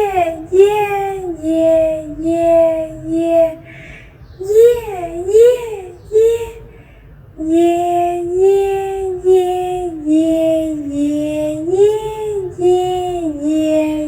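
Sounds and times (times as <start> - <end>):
high-pitched voice chanting: 0.0 - 14.0.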